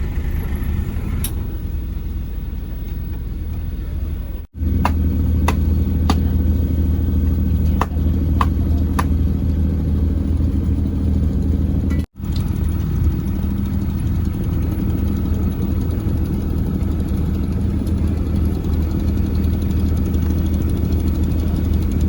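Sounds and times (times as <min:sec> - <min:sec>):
engine running low hum: 0:00.0 - 0:22.0.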